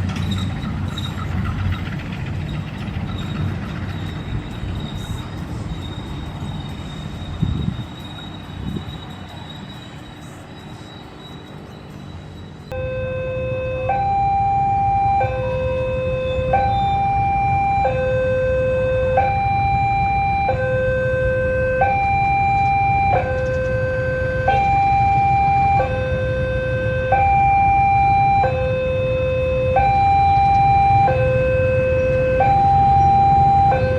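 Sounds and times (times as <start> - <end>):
two-tone crossing alarm: 2.8 - 33.9.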